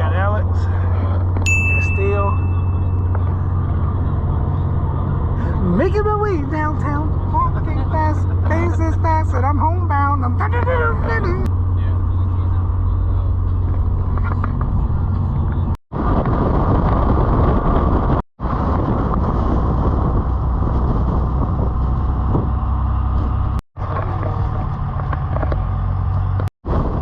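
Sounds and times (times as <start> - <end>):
low hum: 0.0 - 27.0
vehicle road and engine noise: 0.0 - 27.0.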